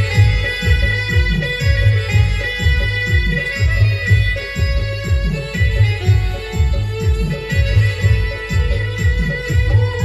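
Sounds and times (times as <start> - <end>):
heavy low drum beat: 0.0 - 10.0
keyboard playing held notes: 0.0 - 10.0.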